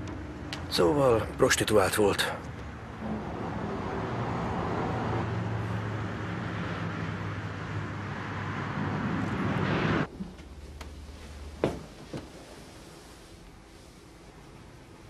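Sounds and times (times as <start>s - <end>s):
motorway traffic rumbling: 0.0s - 12.4s.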